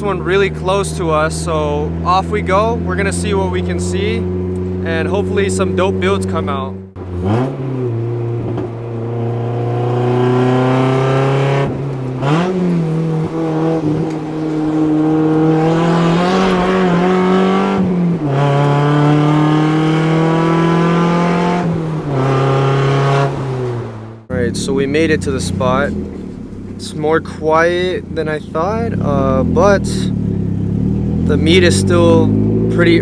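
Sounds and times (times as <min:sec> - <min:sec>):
car engine accelerating through gears: 0:00.0 - 0:33.0.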